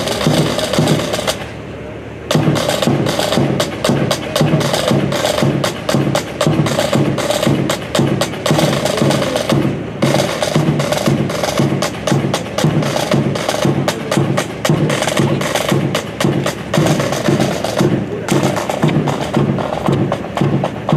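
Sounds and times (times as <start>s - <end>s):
drums: 0.0s - 20.9s
wooden clacks: 2.3s - 20.9s.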